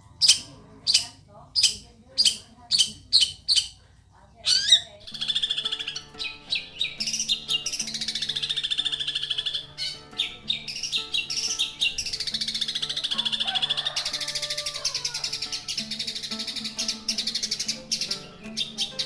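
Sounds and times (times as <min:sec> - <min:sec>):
bird chattering trills: 0:00.0 - 0:03.8, 0:04.4 - 0:19.0
low background tones: 0:00.0 - 0:19.0.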